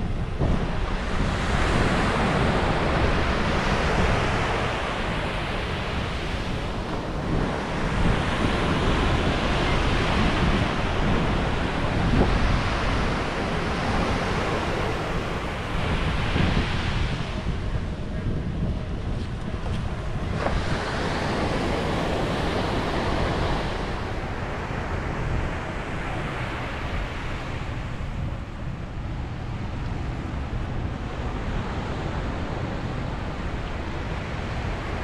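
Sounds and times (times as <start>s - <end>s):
ocean waves breaking on beach: 0.0s - 35.0s
wind rumbling on microphone: 0.0s - 35.0s.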